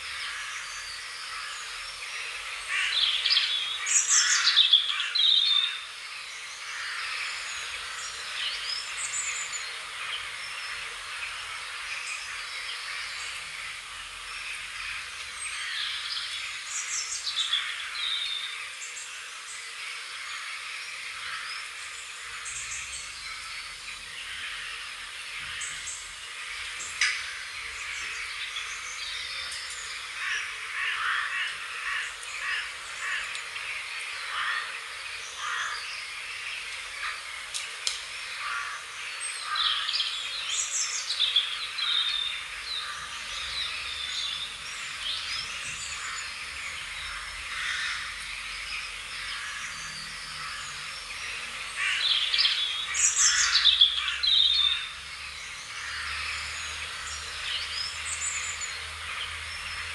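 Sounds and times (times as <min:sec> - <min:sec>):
birds calling: 0:00.0 - 0:59.9
birds chirping and trilling: 0:00.0 - 0:59.9.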